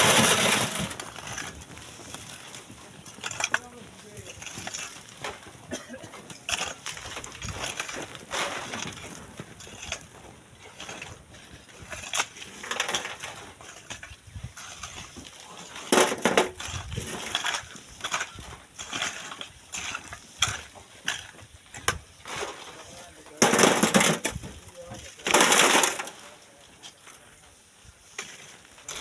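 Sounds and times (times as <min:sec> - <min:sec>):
shovel digging sand and stones: 0:00.0 - 0:05.5, 0:06.1 - 0:29.0.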